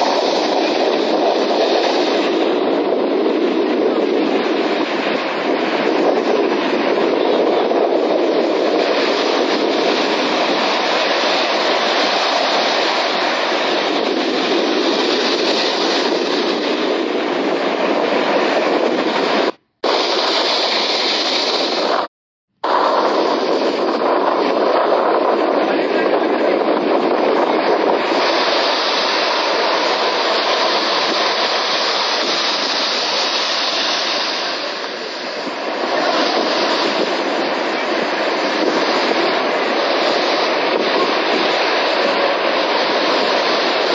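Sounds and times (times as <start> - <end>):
sea waves and surf: 0.0 - 43.9.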